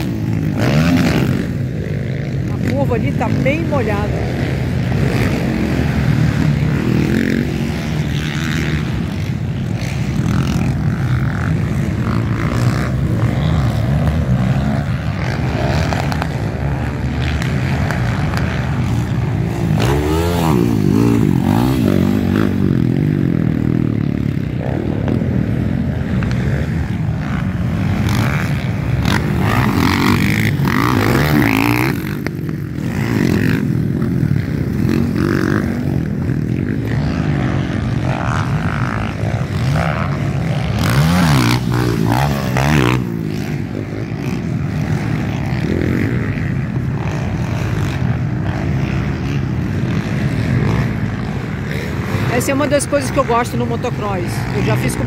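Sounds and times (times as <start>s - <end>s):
motocross bikes racing past: 0.0s - 55.0s.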